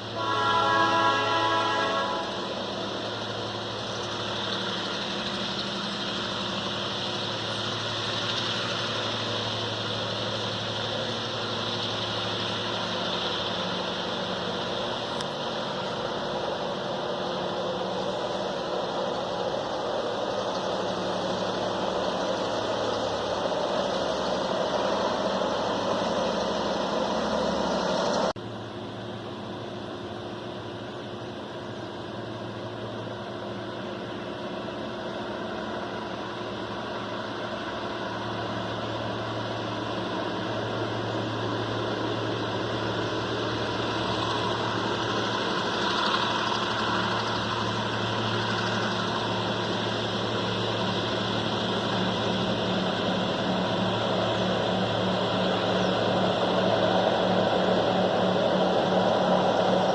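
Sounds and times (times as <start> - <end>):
locomotive engine humming: 0.0 - 59.9.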